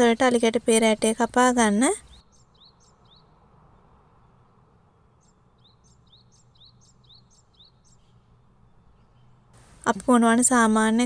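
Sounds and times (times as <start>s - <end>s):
faint bird chirping: 0.0s - 11.0s
low background hiss: 0.0s - 11.0s.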